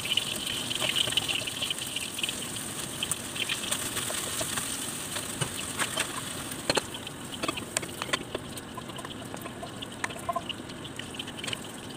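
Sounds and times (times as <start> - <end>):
food sizzling in frying pan: 0.0 - 11.9.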